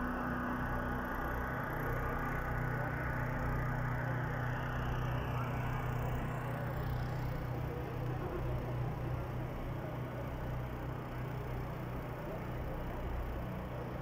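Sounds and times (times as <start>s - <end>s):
faint street noise: 0.0s - 14.0s.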